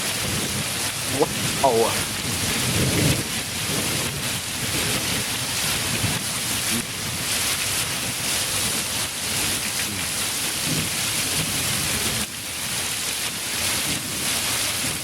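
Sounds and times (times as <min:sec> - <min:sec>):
heavy rain and hail: 0:00.0 - 0:15.0.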